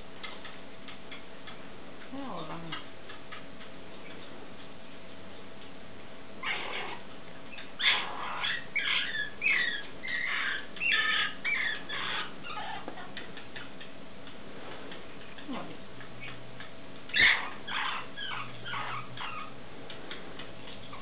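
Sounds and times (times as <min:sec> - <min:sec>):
animal pup squeaking: 0:00.2 - 0:05.8, 0:06.4 - 0:21.0.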